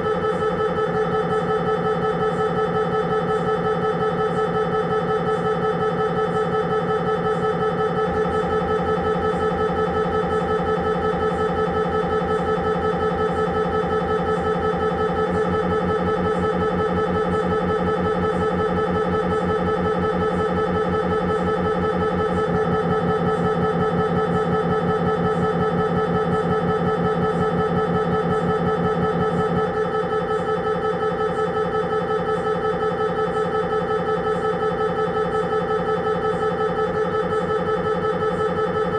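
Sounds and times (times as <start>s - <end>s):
mri scanner pulsing drone: 0.0s - 38.9s.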